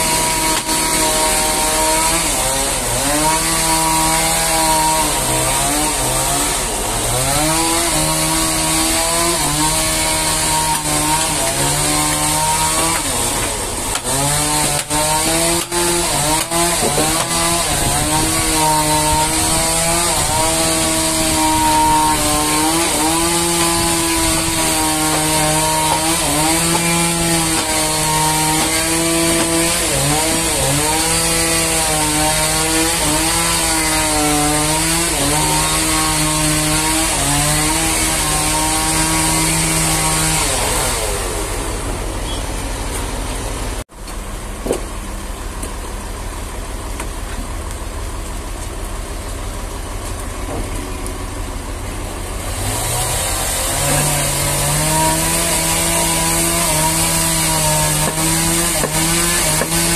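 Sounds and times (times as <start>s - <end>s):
sawmill saw cutting log: 0.0s - 44.9s, 49.8s - 59.9s.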